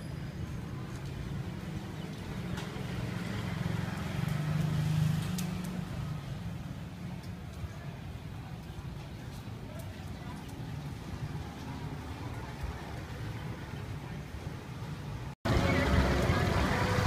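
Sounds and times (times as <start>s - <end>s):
street background noise: 0.0s - 17.0s
vehicle engine rumble passing: 0.4s - 7.5s, 10.2s - 17.0s.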